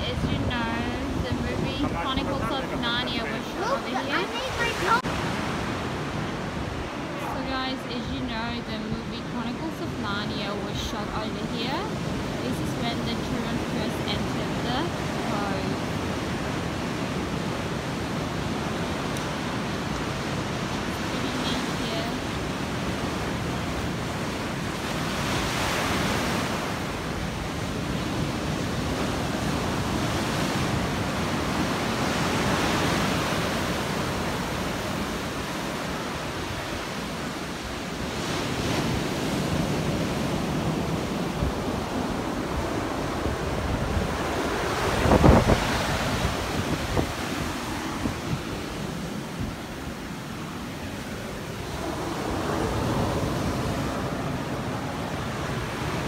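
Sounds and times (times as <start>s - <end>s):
ocean waves breaking: 0.0s - 56.0s
wind buffeting microphone: 0.0s - 56.0s.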